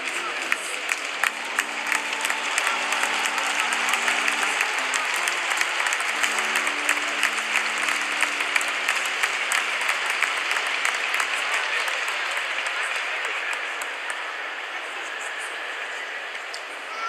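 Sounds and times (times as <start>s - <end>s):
audience applauding: 0.0s - 16.3s
faint music: 0.0s - 17.0s.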